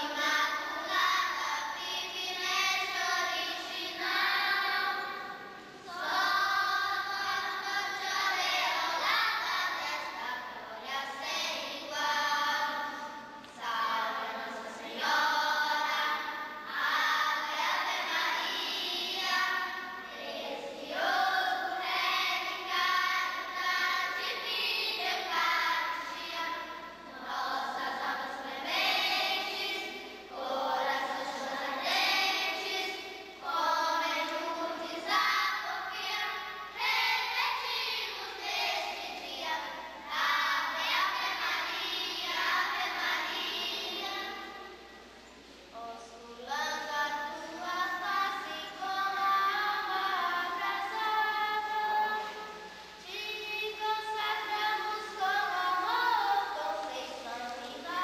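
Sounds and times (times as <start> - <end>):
girls choir singing: 0.0 - 58.0.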